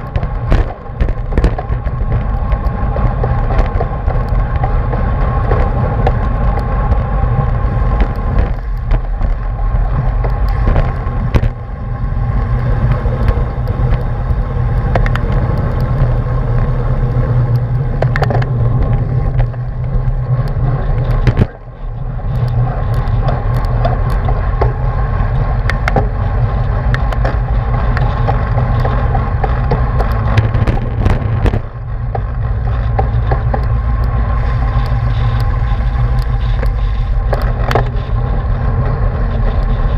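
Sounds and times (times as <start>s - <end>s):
sharp clicks and knocks: 0.0s - 39.9s
wind rumble on microphone: 0.0s - 39.9s.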